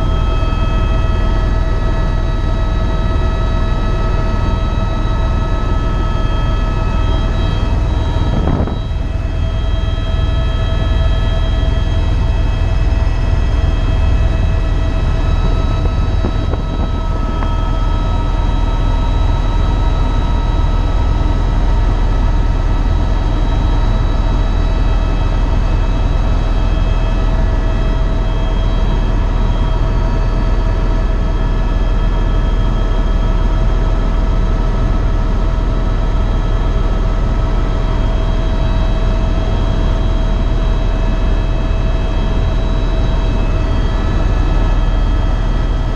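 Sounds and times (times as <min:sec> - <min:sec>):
helicopter engine whine: 0:00.0 - 0:45.9
helicopter rotor drone: 0:00.0 - 0:45.9.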